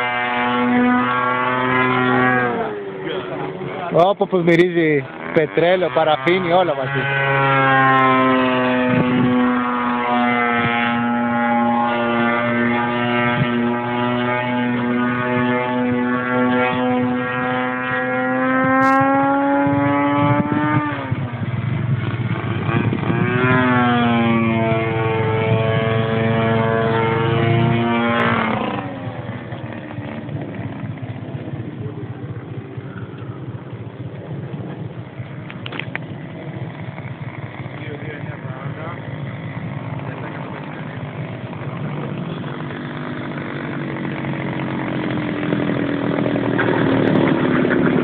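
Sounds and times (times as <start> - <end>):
model airplane engine droning: 0.0 - 48.0.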